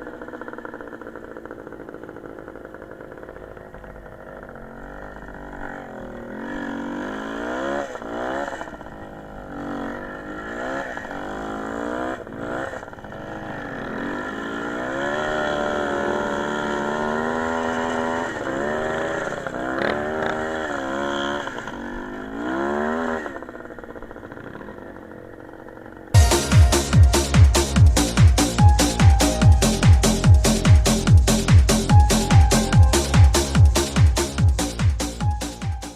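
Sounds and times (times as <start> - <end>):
small motorcycle engine revving: 0.0 - 35.9.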